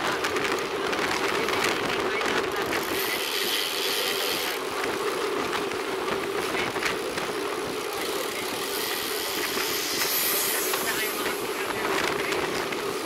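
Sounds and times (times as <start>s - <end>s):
bicycle tyres rolling on concrete: 0.0s - 13.0s
wind rushing over microphone: 0.0s - 13.0s.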